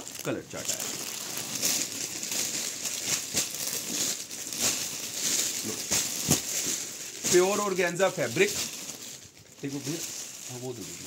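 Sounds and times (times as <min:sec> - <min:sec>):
fabric rustling: 0:00.0 - 0:11.0
plastic packets crinkling: 0:00.0 - 0:11.0.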